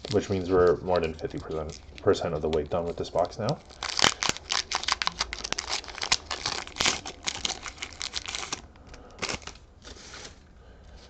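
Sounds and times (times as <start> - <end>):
foil wrapper crackling: 0.0 - 10.4.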